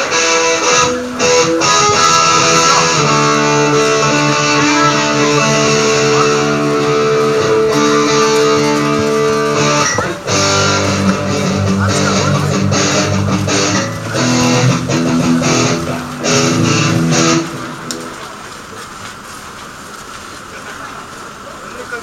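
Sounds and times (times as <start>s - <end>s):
electric guitar chords: 0.0s - 18.7s.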